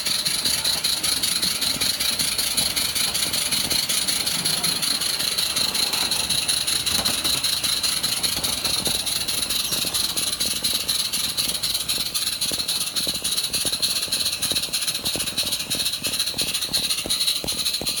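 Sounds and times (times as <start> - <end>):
wheels rattling and clattering: 0.0 - 18.0.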